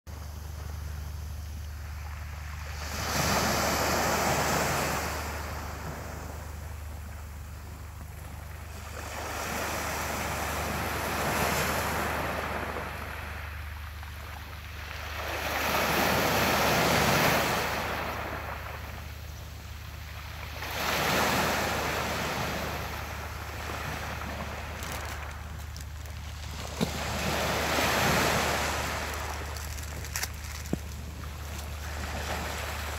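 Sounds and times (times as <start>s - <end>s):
low hum: 0.1s - 32.9s
waves breaking on shore: 0.1s - 32.9s.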